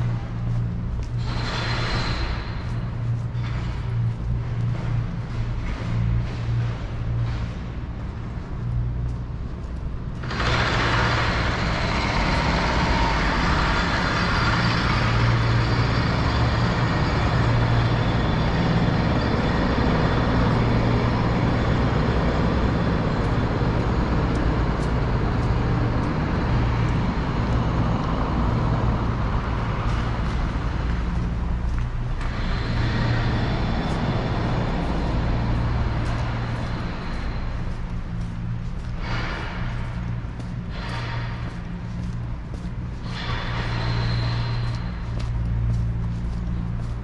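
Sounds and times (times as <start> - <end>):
road noise: 0.0 - 47.0
vehicle engines running: 0.0 - 47.0.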